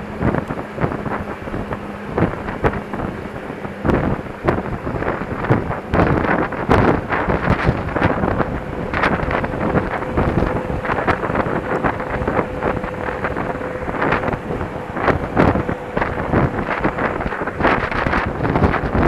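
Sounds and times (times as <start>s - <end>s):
bicycle crackle and rattle: 0.0s - 19.0s
wind rushing over microphone: 0.0s - 19.0s.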